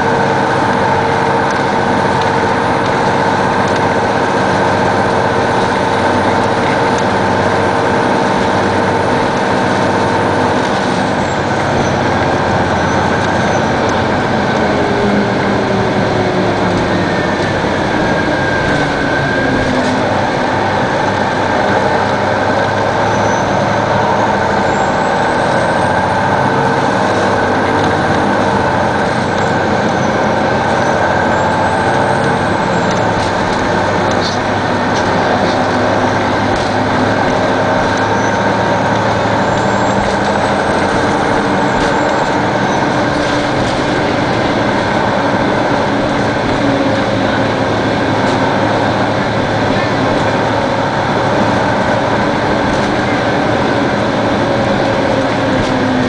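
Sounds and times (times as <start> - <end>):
bus engine drone: 0.0 - 56.0
whine gliding down in pitch: 0.0 - 56.0.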